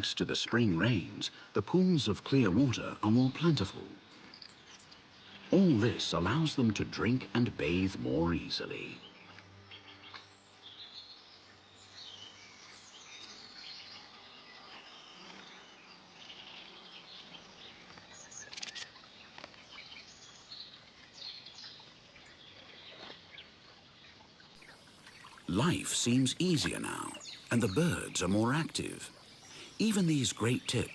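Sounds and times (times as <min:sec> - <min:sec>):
songbirds chirping and twittering: 0:00.0 - 0:30.9.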